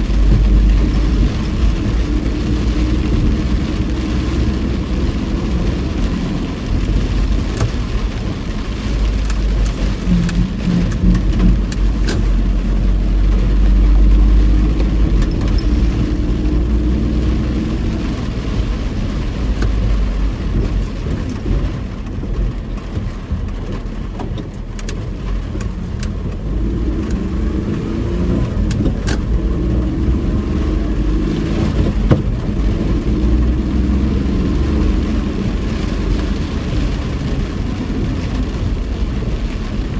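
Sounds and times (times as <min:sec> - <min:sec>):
car engine and road drone: 0:00.0 - 0:39.9
rain striking car body: 0:00.0 - 0:39.9.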